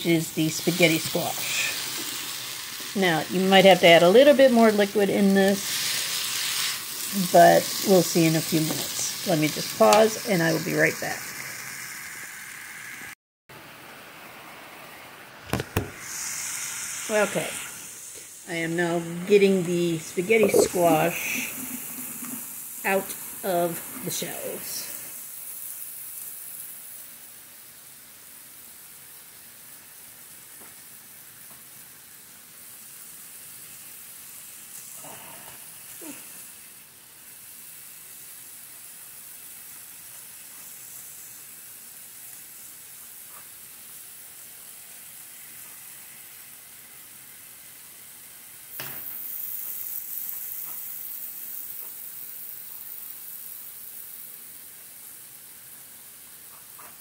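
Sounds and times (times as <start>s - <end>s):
vegetables sizzling in a hot pan: 0.0s - 57.0s.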